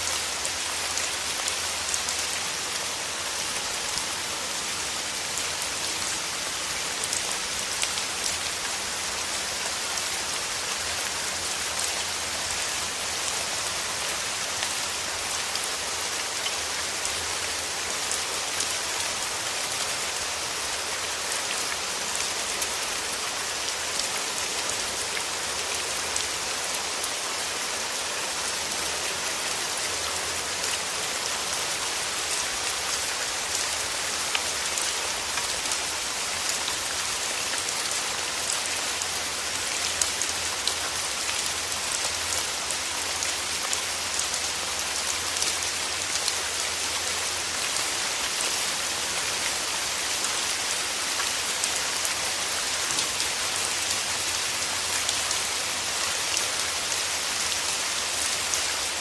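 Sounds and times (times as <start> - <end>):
rain falling with drop ticks: 0.0 - 59.0.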